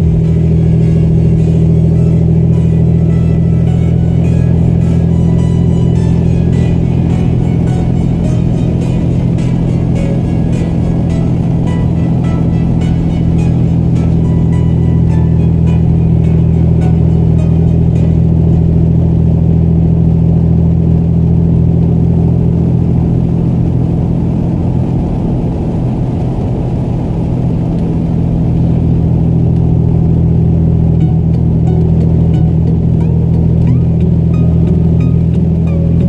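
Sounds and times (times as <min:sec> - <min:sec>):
vehicle engine rumble: 0:00.0 - 0:36.0.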